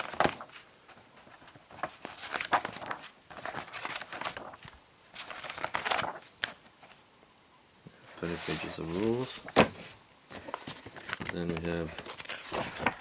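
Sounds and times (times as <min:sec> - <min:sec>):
paper pages turning: 0:00.0 - 0:07.0, 0:08.1 - 0:13.0.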